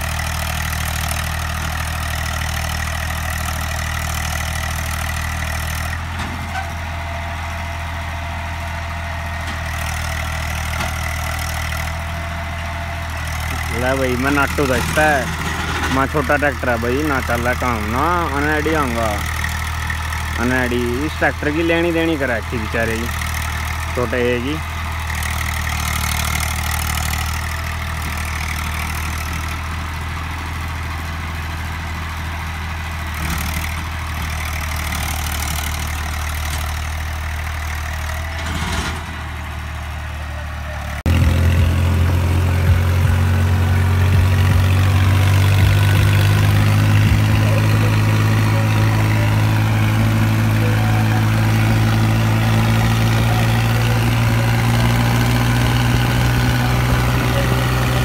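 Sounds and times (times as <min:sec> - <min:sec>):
loud tractor engine: 0:00.0 - 0:58.0
tractor engine running: 0:00.0 - 0:58.0.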